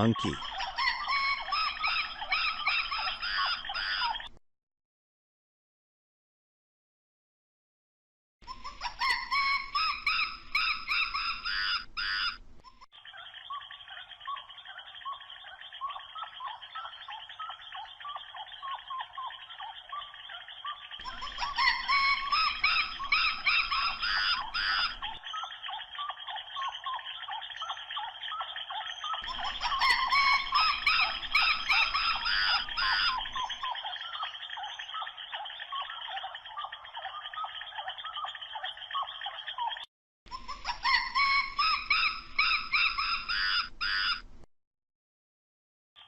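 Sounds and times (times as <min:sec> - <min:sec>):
monkeys chirping calls: 0:00.0 - 0:04.4, 0:08.4 - 0:44.3.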